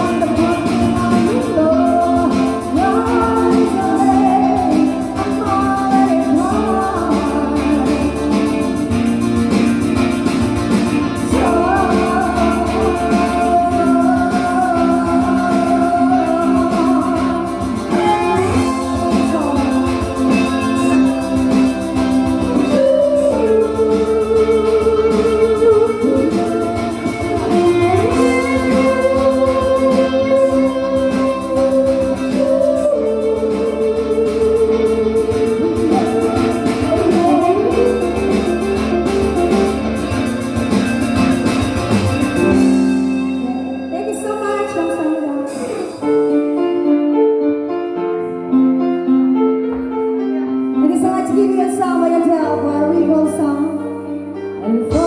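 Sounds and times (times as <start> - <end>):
person singing: 0.0 - 48.7, 49.4 - 55.0
guitar accompaniment: 0.0 - 55.0.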